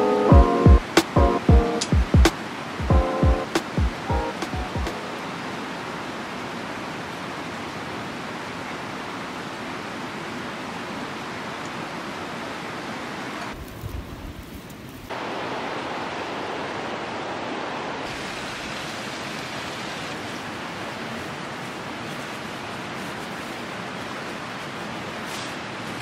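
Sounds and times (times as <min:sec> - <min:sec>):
river flowing over rocks: 0:00.0 - 0:13.6, 0:15.1 - 0:26.0.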